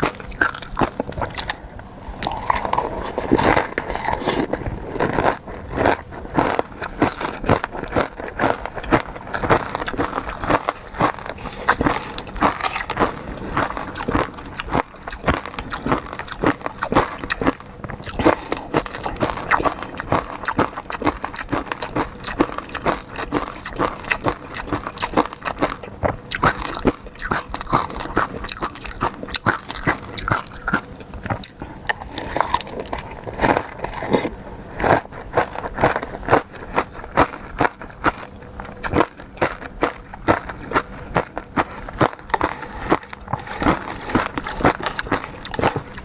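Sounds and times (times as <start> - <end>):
person biting and chewing: 0.0 - 46.0
wet clicks and crunches: 0.0 - 46.0.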